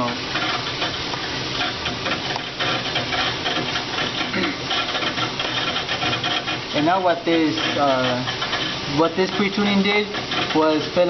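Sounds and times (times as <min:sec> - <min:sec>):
steady rushing hiss of water flow: 0:00.0 - 0:11.0
water moving through pipes: 0:00.0 - 0:11.0.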